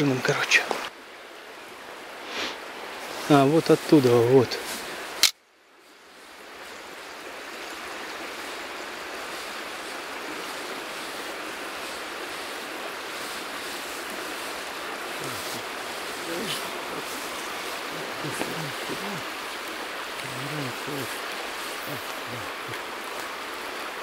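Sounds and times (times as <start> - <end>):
shallow river rushing over stones: 0.0 - 24.0.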